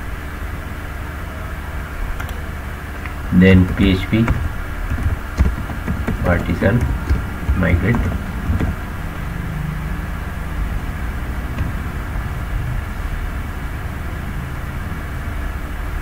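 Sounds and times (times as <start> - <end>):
low background rumble: 1.6 - 16.0.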